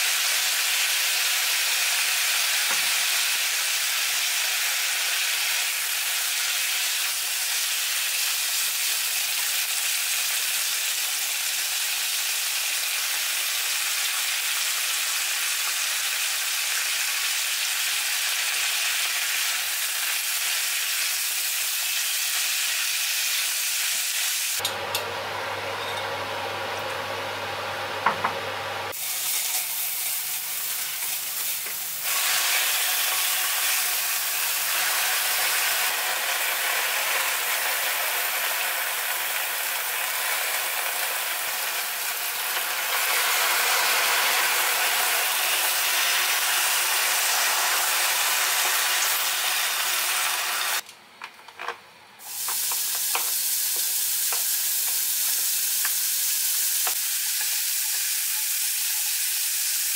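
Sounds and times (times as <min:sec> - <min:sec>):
food sizzling in a pan: 0:00.0 - 0:27.1, 0:28.9 - 0:50.8, 0:52.2 - 0:59.9.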